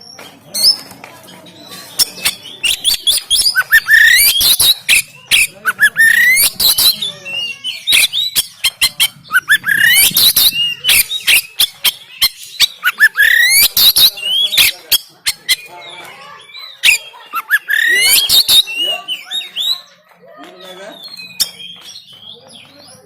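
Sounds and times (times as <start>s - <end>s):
magpie-robin singing: 0.0s - 23.0s.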